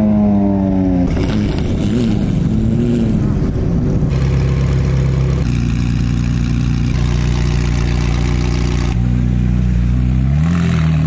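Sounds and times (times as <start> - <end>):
car engine cruising: 0.0 - 11.0.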